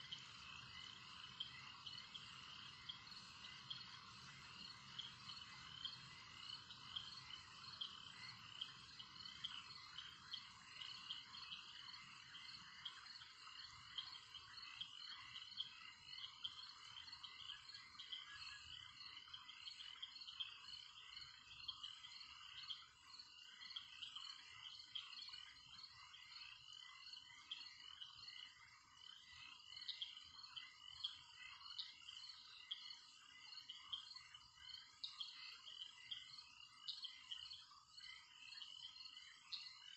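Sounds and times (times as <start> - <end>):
chorus of rapid animal chirps: 0.0 - 39.9.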